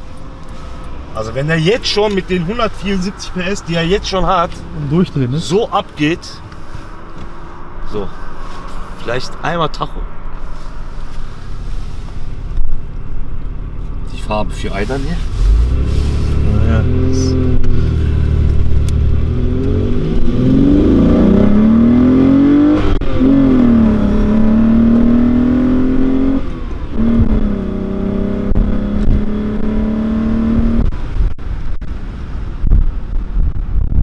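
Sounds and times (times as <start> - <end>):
car engine accelerating hard: 0.0 - 9.8, 10.5 - 31.2.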